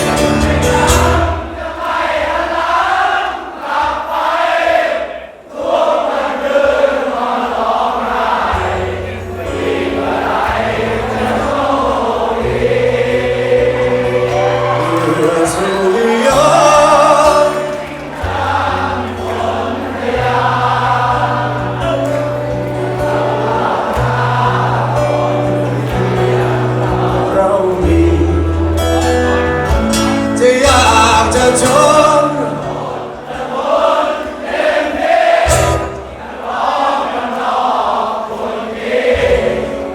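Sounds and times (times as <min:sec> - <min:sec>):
many voices singing together: 0:00.0 - 0:39.9.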